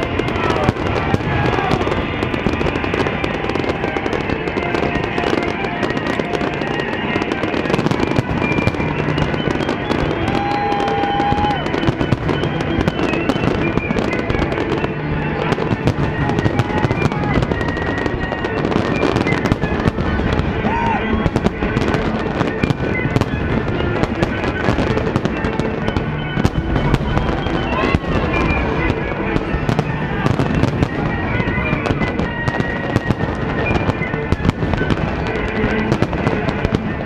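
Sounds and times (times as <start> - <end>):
firework whistle: 0.0 - 37.0
fireworks crackling and popping: 0.0 - 37.0.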